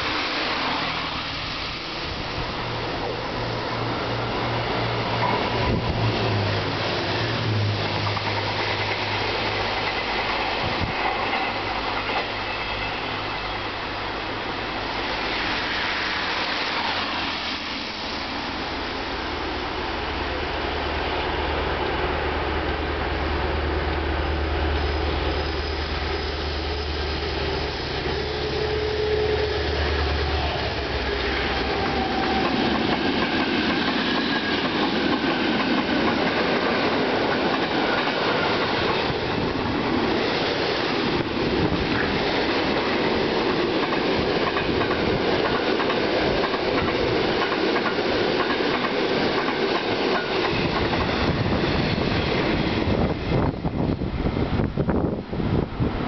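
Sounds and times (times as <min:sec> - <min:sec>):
diesel locomotive engine drone: 0:00.0 - 0:56.0
train wheels rumbling and clattering: 0:00.0 - 0:56.0.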